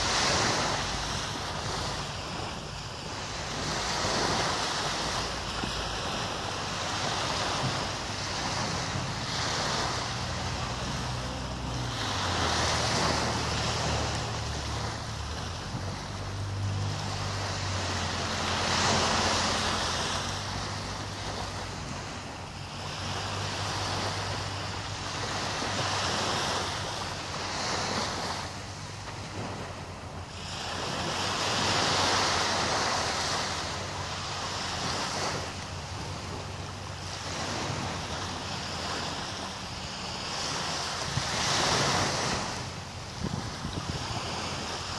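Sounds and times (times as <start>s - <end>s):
waves washing on sand: 0.0s - 44.9s
wind on microphone: 0.0s - 44.9s.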